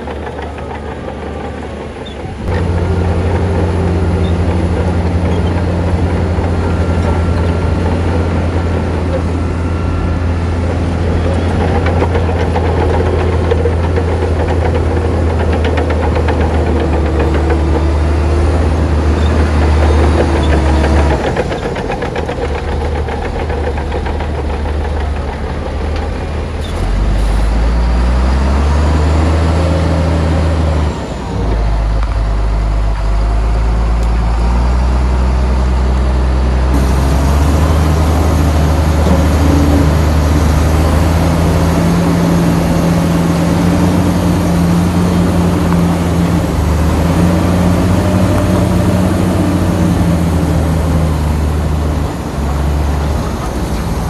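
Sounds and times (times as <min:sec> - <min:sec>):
heavy machine diesel engine rumbling: 0:00.0 - 0:54.0.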